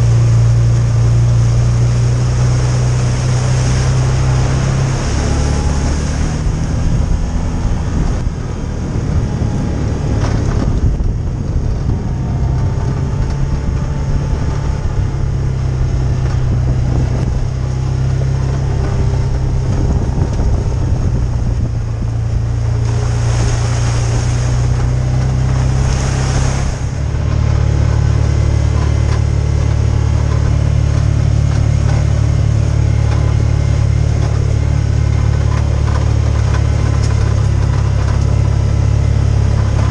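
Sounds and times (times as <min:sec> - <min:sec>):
utility vehicle engine running: 0:00.0 - 0:39.9.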